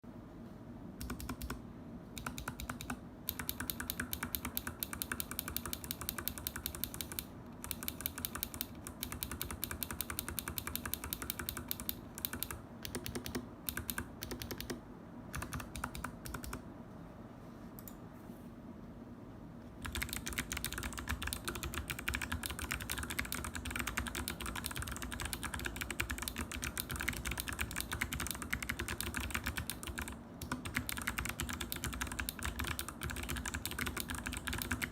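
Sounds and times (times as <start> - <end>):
mechanical keyboard typing clicks: 1.0 - 1.6, 2.2 - 16.6, 19.8 - 34.9.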